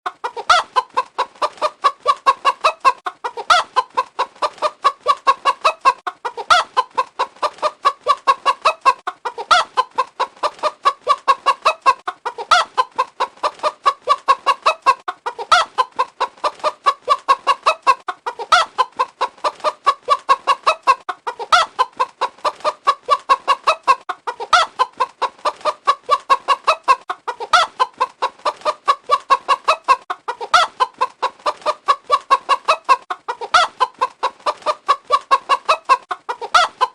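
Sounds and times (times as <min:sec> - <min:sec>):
hen clucking: 0:00.1 - 0:36.9.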